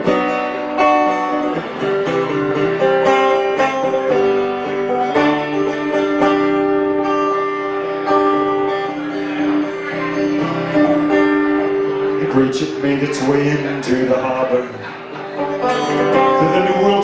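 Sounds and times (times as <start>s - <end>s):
guitar picking: 0.0s - 17.0s.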